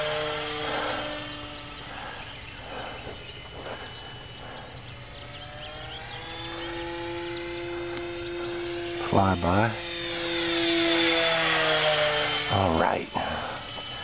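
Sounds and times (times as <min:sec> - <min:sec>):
model plane motor whine: 0:00.0 - 0:14.0.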